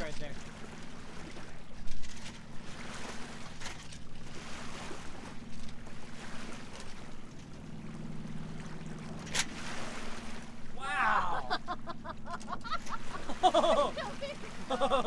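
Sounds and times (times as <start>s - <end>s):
boat engine humming: 0.0s - 15.0s
water splashing along hull: 0.0s - 15.0s.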